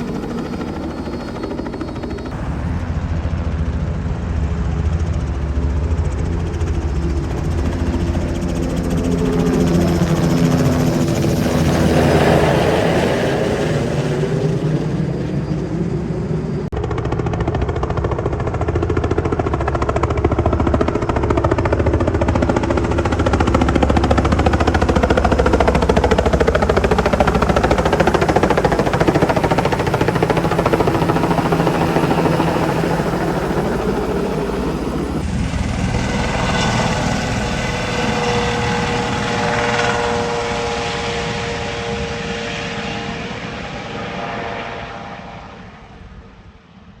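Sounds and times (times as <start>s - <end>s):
high turbine whine: 0.0s - 16.7s, 21.4s - 46.2s
helicopter turbine and rotor: 0.0s - 47.0s.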